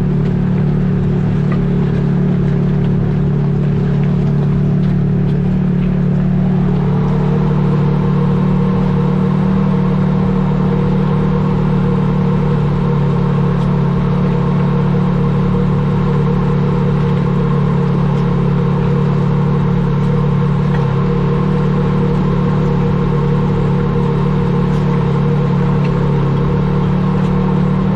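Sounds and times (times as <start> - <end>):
motor droning: 0.0 - 27.9.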